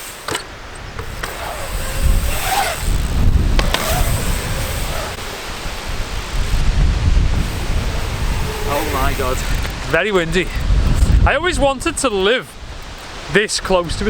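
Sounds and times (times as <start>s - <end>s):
wind buffeting microphone: 0.6s - 14.0s.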